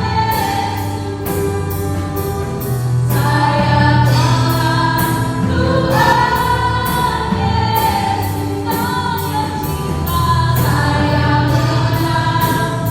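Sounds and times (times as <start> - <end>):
group singing worship song: 0.0 - 12.9
instrumental accompaniment: 0.0 - 12.9.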